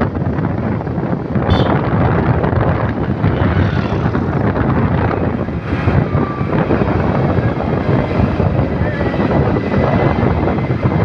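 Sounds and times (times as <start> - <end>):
moving vehicle rumble: 0.0 - 11.0
wind buffeting microphone: 0.0 - 11.0.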